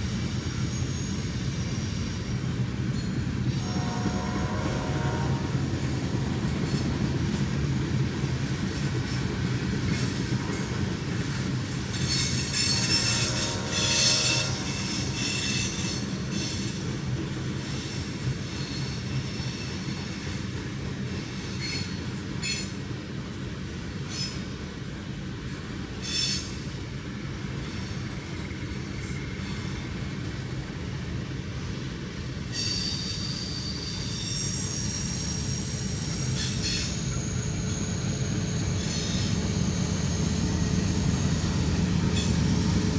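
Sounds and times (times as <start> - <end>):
wheels squealing on rails: 0.0 - 7.7, 8.6 - 42.9
freight train rumble: 0.0 - 42.9.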